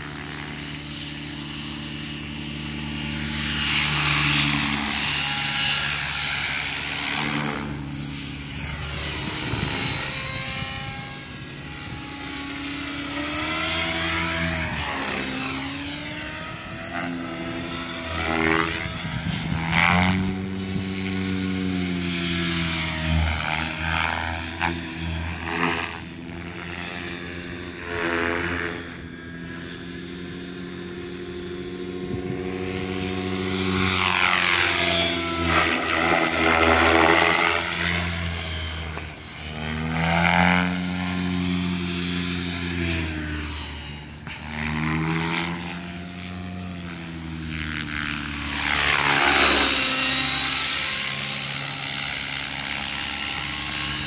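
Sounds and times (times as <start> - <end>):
model helicopter rotor buzzing: 0.0 - 54.0.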